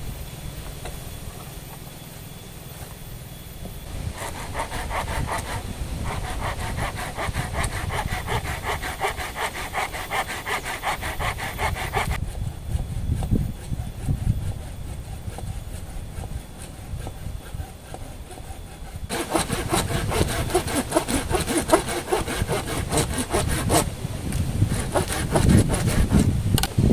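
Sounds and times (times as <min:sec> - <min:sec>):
wind rumble: 0:03.7 - 0:26.9
hand saw cutting wood: 0:03.9 - 0:26.6.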